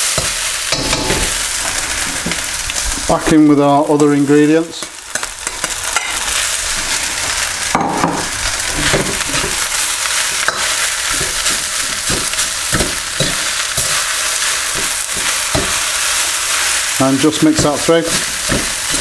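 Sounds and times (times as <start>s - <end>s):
fried rice sizzling in a wok: 0.0s - 19.0s.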